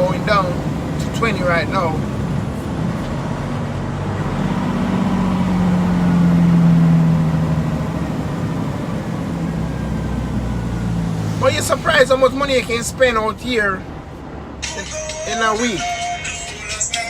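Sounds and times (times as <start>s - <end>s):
road noise: 0.0s - 17.0s
truck diesel engine drone: 0.0s - 17.0s.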